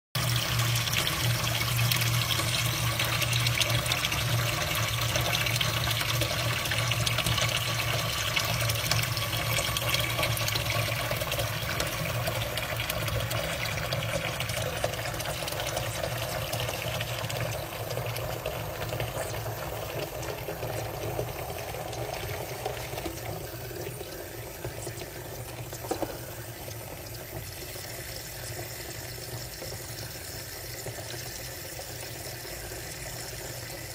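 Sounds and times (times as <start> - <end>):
tap water running into sink: 0.2 - 33.9.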